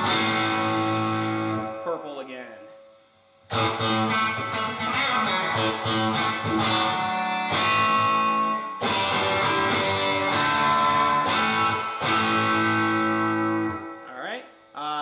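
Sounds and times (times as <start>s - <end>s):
overdriven electric guitar: 0.0s - 2.0s, 3.5s - 14.1s.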